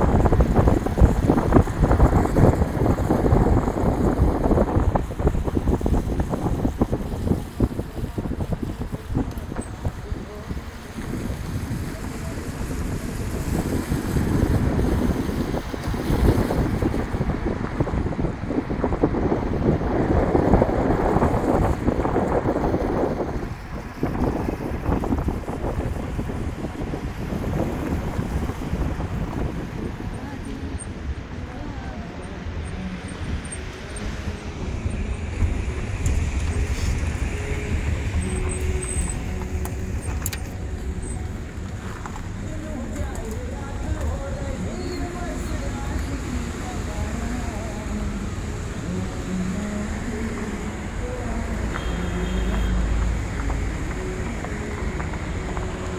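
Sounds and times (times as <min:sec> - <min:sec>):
car rumbling over gravel: 0:00.0 - 0:30.7, 0:32.9 - 0:51.9
wind buffeting microphone: 0:00.0 - 0:55.9.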